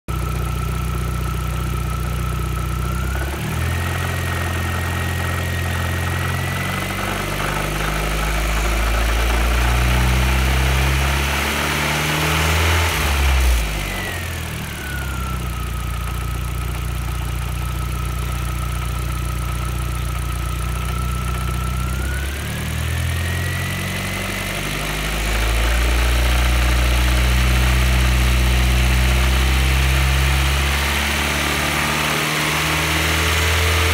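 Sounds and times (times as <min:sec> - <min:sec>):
high engine whine: 0:00.1 - 0:33.9.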